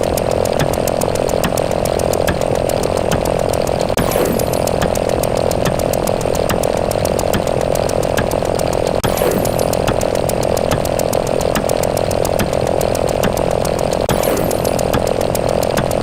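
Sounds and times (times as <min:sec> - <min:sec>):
rapid sharp ticks: 0:00.0 - 0:16.0.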